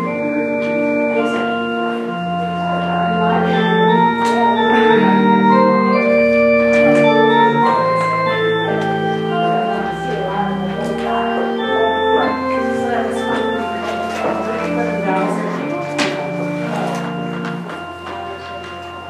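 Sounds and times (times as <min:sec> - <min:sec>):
church organ playing chords: 0:00.0 - 0:19.0.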